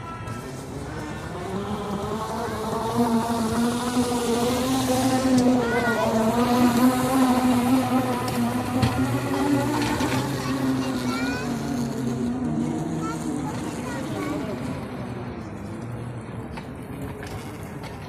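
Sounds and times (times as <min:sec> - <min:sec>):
motor droning hum: 0:00.0 - 0:17.8
faint voices: 0:00.0 - 0:18.0.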